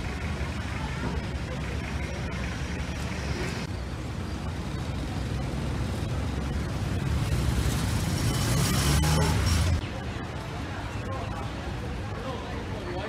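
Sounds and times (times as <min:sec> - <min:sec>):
approaching vehicle engine rumble: 0:00.0 - 0:10.5
vehicle engines idling: 0:00.0 - 0:13.0.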